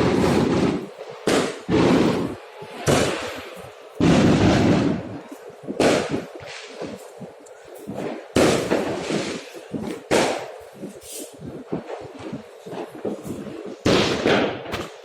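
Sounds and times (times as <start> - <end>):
fireworks loud bangs: 0.0 - 15.0
small firework pops: 0.0 - 15.0.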